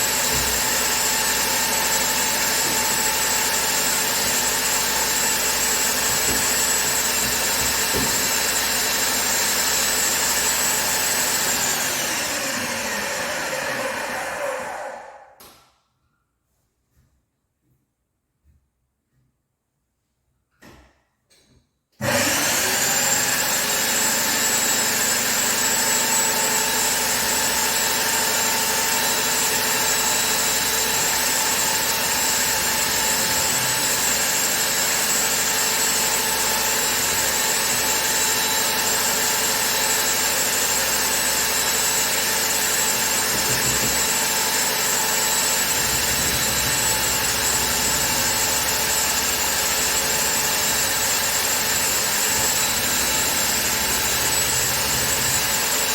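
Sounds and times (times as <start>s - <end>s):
powered machine whining: 0.0s - 15.2s, 22.0s - 55.9s.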